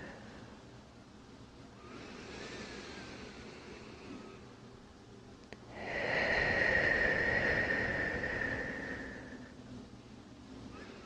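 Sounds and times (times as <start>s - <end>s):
deep breathing: 0.0s - 0.8s, 1.6s - 5.0s, 5.6s - 11.0s.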